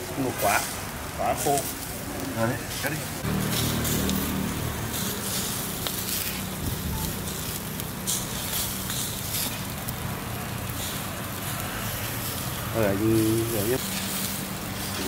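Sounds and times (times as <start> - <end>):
meat crackling and sizzling: 0.0 - 15.0.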